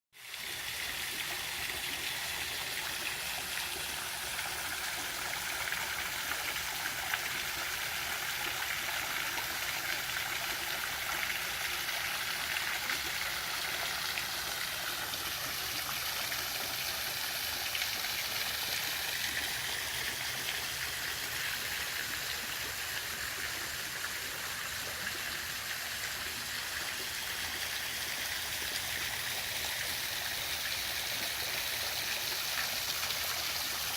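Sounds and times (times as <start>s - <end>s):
waterfall splashing into pool: 0.2s - 33.9s.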